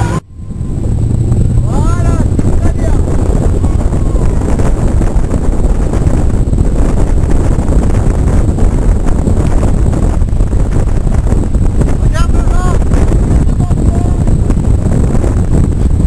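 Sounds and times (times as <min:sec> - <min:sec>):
water rushing: 0:00.0 - 0:14.5
boat engine running: 0:00.0 - 0:16.0
wind noise on microphone: 0:00.0 - 0:16.0.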